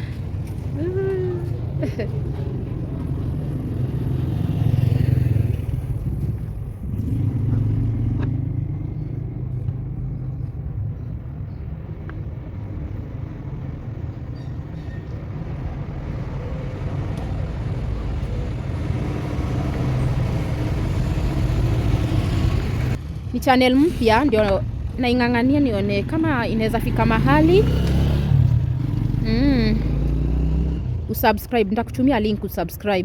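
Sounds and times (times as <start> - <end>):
vehicle engine rumbling: 0.0 - 32.9.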